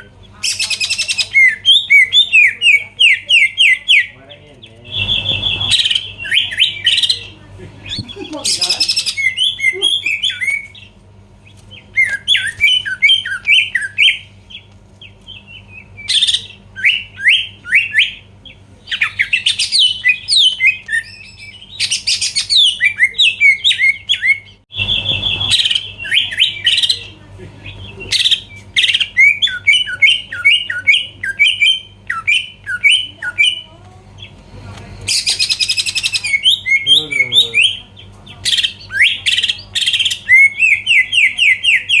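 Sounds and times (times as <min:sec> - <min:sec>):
bird whistling song: 0:00.0 - 0:04.2, 0:04.8 - 0:10.9, 0:11.5 - 0:14.6, 0:15.2 - 0:34.3, 0:35.1 - 0:42.0
faint electrical hum: 0:00.0 - 0:42.0
harsh chattering bird calls: 0:00.0 - 0:42.0.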